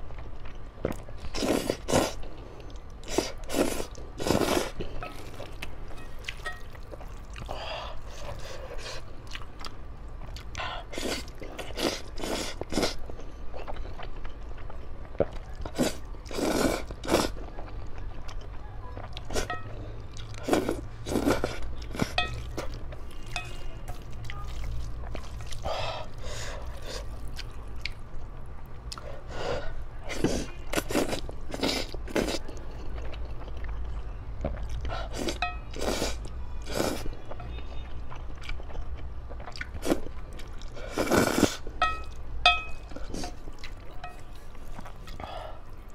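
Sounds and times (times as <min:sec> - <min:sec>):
chewing: 0:00.1 - 0:28.3, 0:28.9 - 0:45.9.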